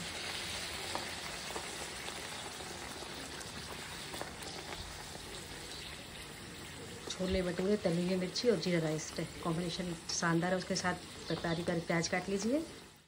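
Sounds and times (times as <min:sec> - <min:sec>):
deep-frying sizzle and bubbling: 0:00.0 - 0:13.0.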